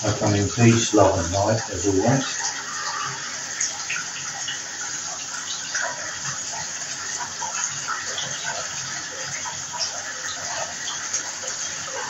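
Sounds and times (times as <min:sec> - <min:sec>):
water pouring into bathtub: 0:00.0 - 0:12.0.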